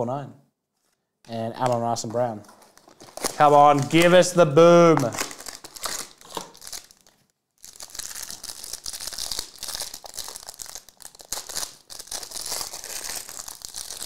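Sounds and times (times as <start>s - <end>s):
plastic wrapper crinkling and tearing: 1.6s - 14.0s.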